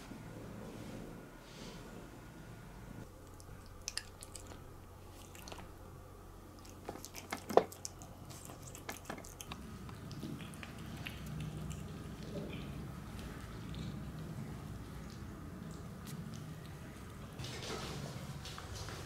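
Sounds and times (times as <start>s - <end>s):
cat chewing and lapping: 3.1s - 19.0s.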